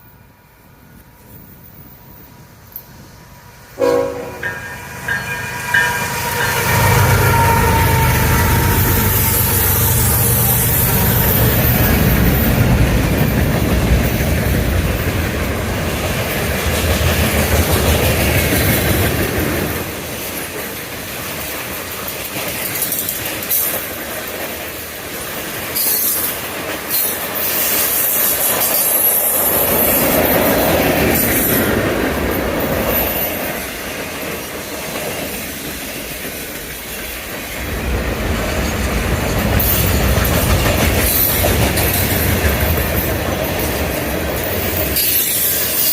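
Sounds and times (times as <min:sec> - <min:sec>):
train wheels clattering over rails: 0:08.5 - 0:45.9.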